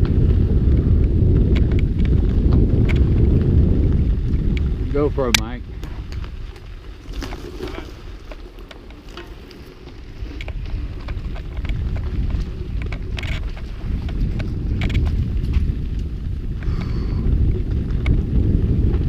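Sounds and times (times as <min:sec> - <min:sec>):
bike tyres rumbling on rocks: 0:00.0 - 0:19.0
stones and bike rattling: 0:00.0 - 0:19.0
wind buffeting microphone: 0:00.0 - 0:19.0.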